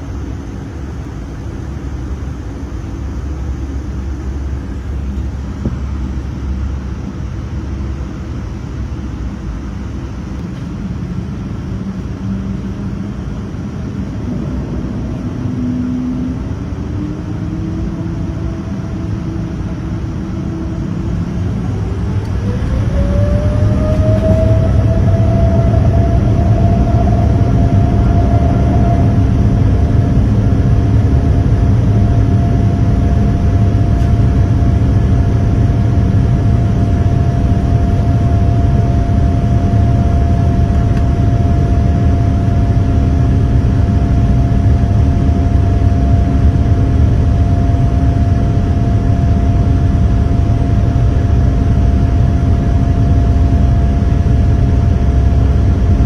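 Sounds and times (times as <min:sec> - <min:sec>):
deep steady rumble: 0:00.0 - 0:56.0
jet engines whining: 0:00.0 - 0:56.0.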